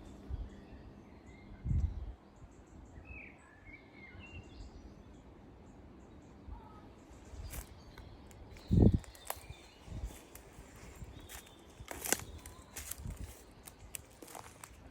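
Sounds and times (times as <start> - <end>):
outdoor background noise: 0.0 - 14.9
small birds chirping: 0.0 - 14.9.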